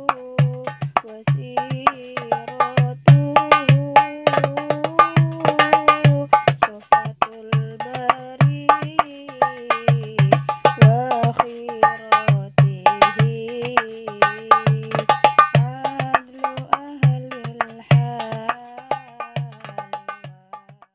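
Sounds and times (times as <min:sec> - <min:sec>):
hand drum rhythm: 0:00.0 - 0:20.9.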